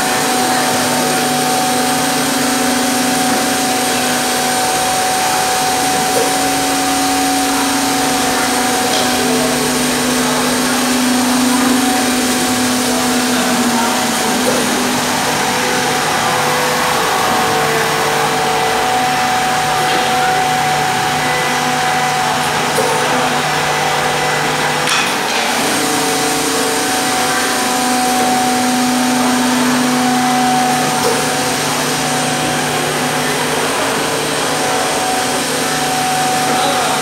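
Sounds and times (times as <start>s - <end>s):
machine motor hum and whine: 0.0s - 37.0s.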